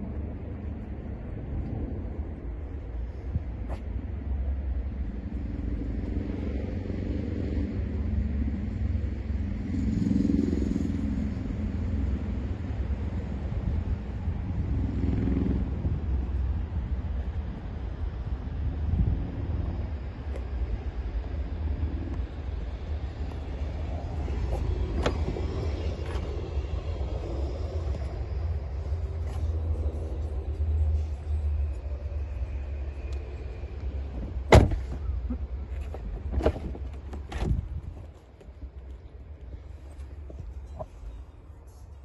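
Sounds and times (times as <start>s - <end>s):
outdoor traffic rumble: 0.0s - 42.0s.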